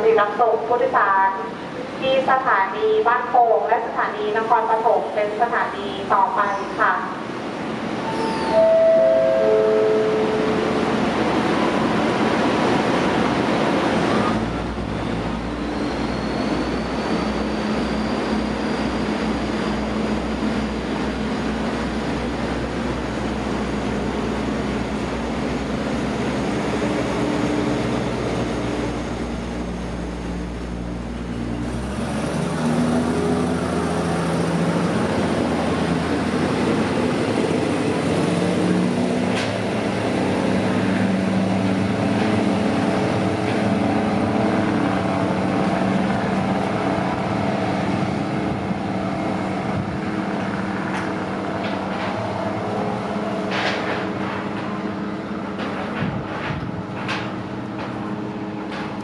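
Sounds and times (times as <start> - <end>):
diesel train engine rumble: 0.0 - 59.0.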